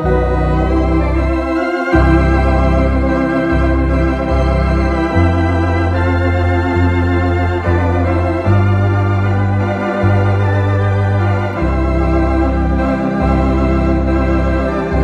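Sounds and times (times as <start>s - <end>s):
organ chords and bass line: 0.0s - 15.0s.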